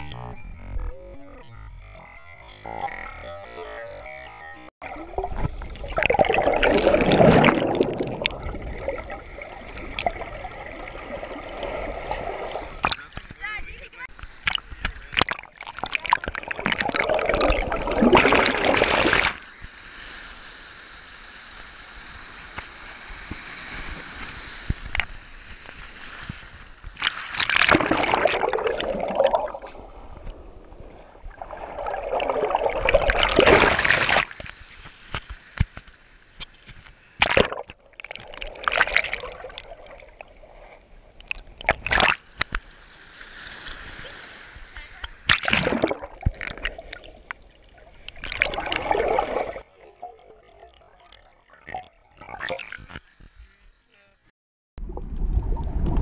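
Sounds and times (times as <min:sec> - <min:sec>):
water lapping and gurgling: 0:00.0 - 0:53.8
shallow water sloshing and splashing: 0:04.8 - 0:20.1, 0:22.2 - 0:53.2.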